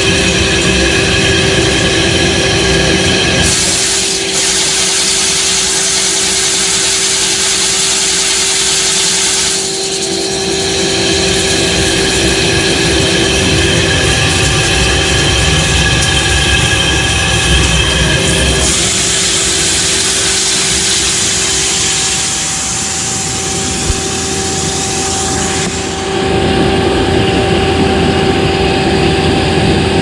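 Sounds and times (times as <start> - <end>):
metal-cutting machine whining: 0.0 - 30.0.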